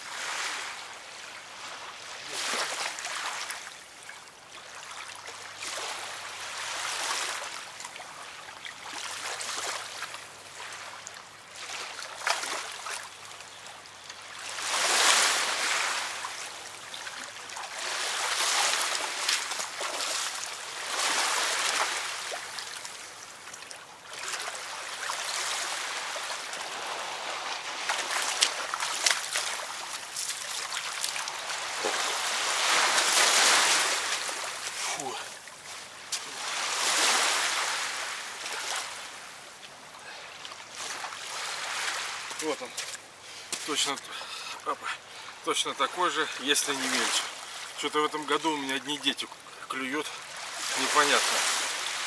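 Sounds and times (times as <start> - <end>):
small waves washing onto sand: 0.0 - 52.0.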